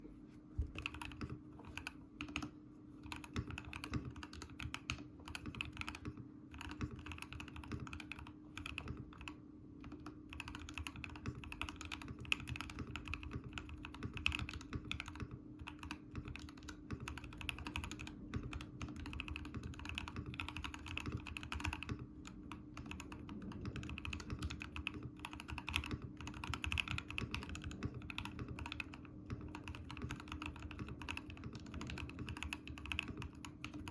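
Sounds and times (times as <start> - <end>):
faint low hum: 0.0 - 33.9
mechanical keyboard typing: 0.6 - 33.9.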